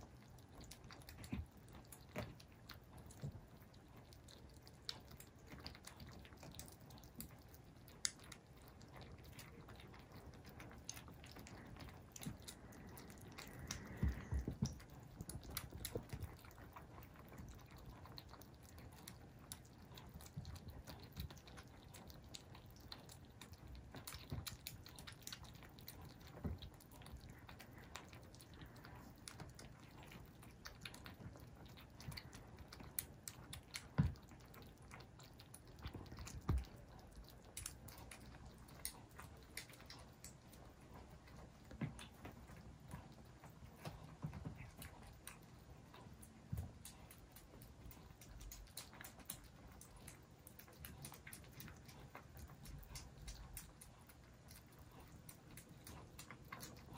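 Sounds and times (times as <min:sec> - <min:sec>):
kittens chewing and lapping: 0:00.0 - 0:56.9.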